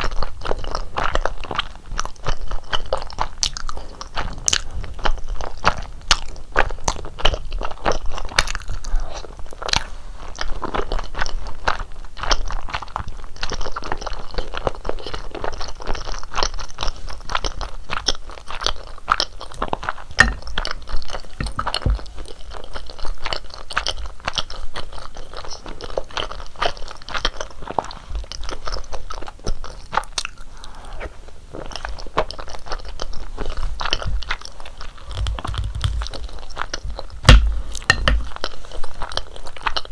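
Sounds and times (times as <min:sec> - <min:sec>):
close chewing and crunching: 0:00.0 - 0:39.9.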